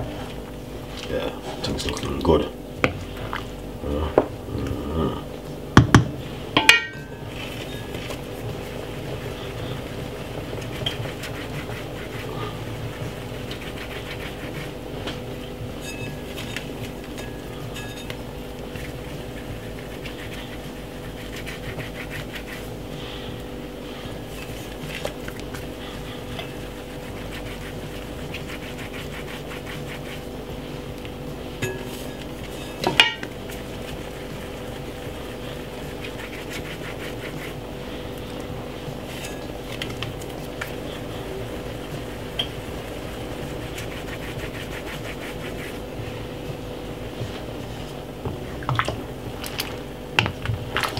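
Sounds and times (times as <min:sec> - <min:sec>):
steady hum: 0:00.0 - 0:50.9.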